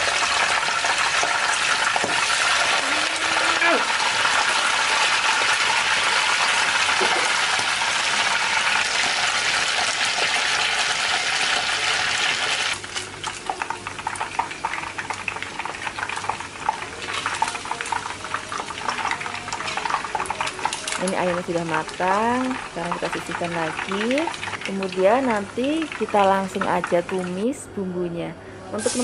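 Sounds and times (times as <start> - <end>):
chicken sizzling in hot oil: 0.0 - 27.3, 28.8 - 29.0.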